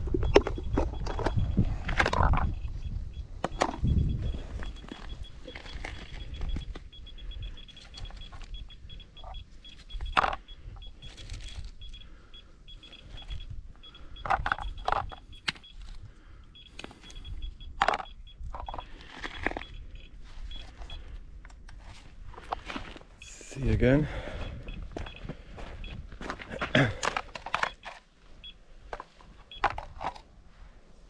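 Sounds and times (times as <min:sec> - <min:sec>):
geiger counter beeps: 0:00.0 - 0:21.2, 0:23.2 - 0:26.1, 0:27.1 - 0:28.6, 0:29.5 - 0:29.8.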